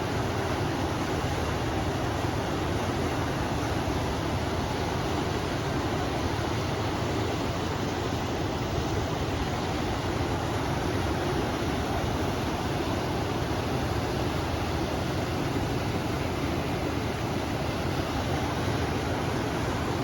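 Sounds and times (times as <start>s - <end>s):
river rushing: 0.0s - 20.0s
wind: 0.0s - 20.0s.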